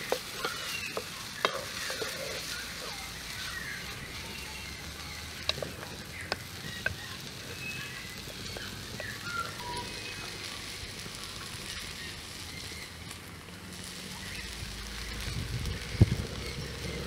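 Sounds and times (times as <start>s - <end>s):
food frying hiss: 0.0s - 17.0s
sharp fire crack: 0.0s - 17.0s
wood fire crackling: 0.0s - 17.0s.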